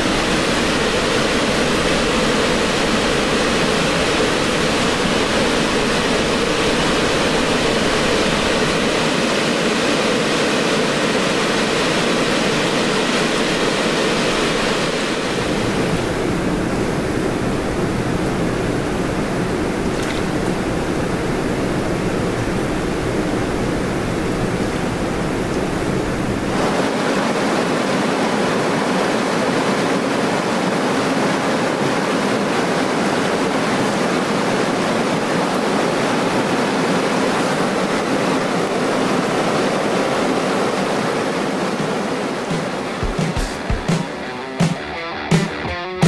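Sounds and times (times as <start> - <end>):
river water rushing over rocks: 0.0 - 44.8.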